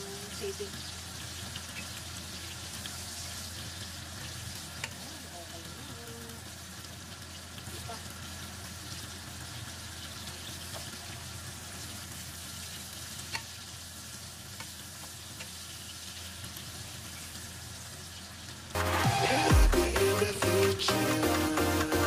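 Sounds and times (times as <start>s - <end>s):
meat sizzling in hot fat: 0.0s - 19.5s.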